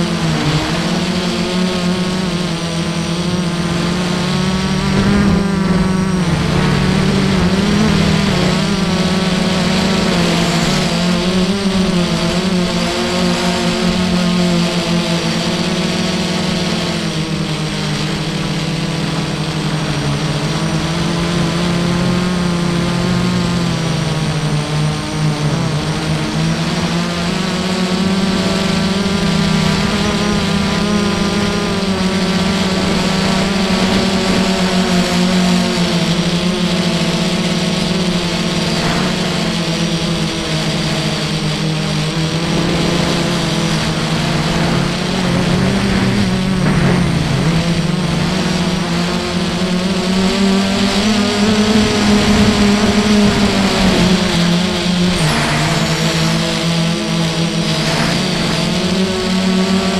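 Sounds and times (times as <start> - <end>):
quadcopter motors buzzing: 0.0 - 59.9.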